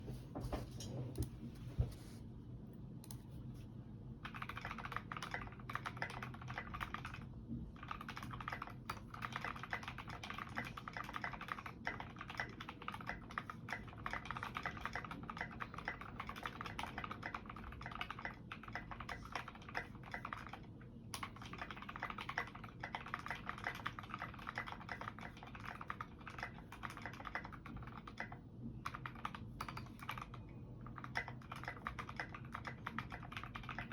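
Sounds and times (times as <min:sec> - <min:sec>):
fast typing on mechanical keyboard: 0:04.2 - 0:33.9.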